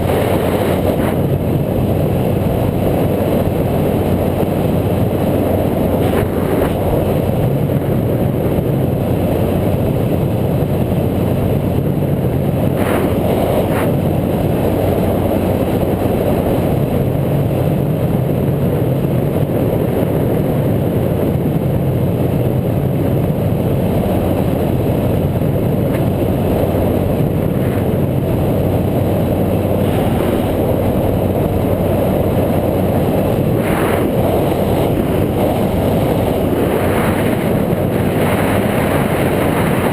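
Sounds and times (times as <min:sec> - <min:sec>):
riding rumble: 0:00.0 - 0:39.9
wind rush: 0:00.0 - 0:39.9.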